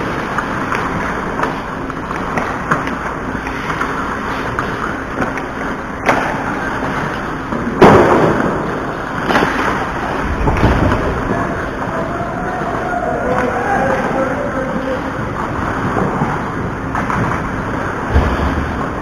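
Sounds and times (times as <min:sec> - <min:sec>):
hockey sticks and puck knocking: 0:00.0 - 0:11.9, 0:15.5 - 0:19.0.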